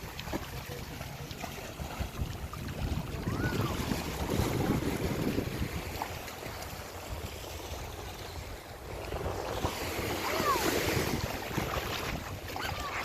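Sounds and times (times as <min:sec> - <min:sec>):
ocean surf on shore: 0:00.0 - 0:13.0
wind buffeting microphone: 0:00.0 - 0:13.0.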